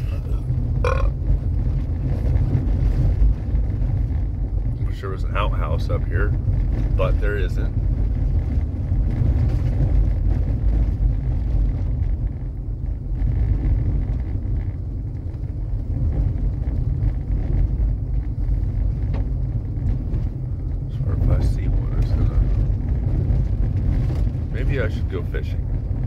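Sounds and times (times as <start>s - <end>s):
vehicle rumbling on dirt road: 0.0s - 26.0s.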